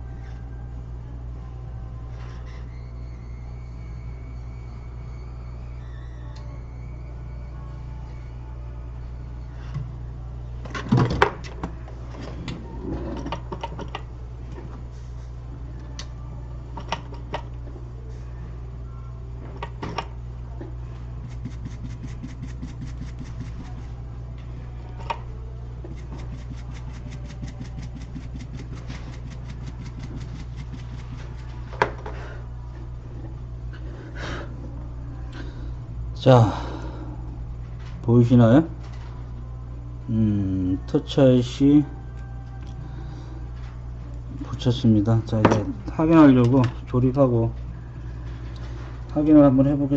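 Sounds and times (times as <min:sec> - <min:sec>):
equipment humming: 0:00.0 - 0:49.9.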